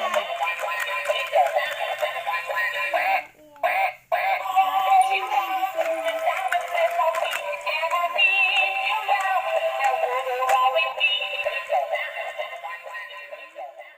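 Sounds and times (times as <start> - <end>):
toy playing electronic song: 0.0 - 13.9.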